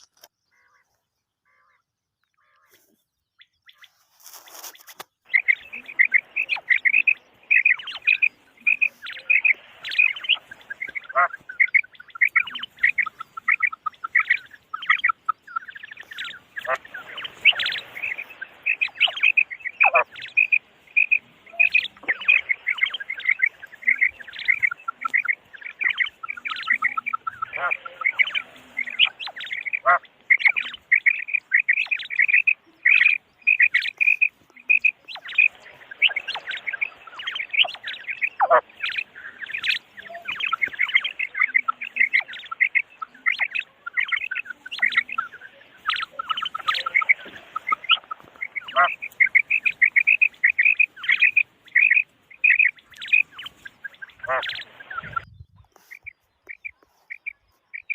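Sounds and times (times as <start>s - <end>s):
quail calling: 0.0s - 57.9s.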